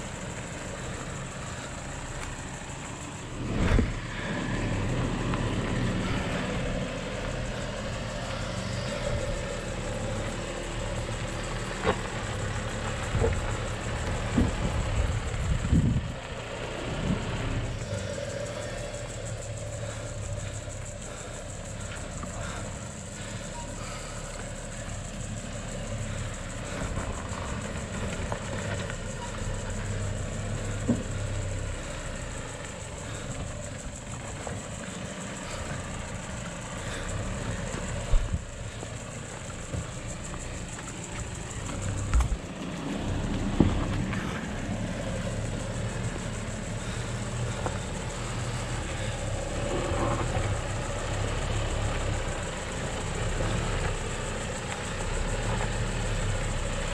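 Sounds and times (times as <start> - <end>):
engine running at low revs: 0.0 - 56.9.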